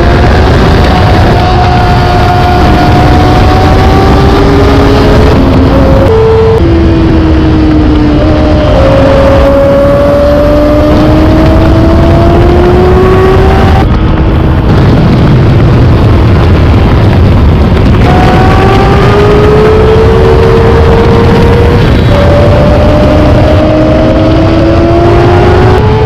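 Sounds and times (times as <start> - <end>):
motorcycle engine at high revs: 0.0 - 26.0
wind rush on microphone: 0.0 - 26.0.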